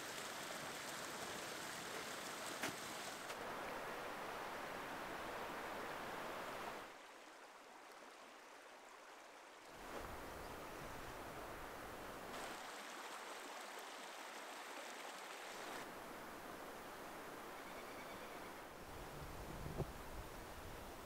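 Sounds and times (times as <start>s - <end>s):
faint hiss of moving air or water: 0.0s - 21.0s.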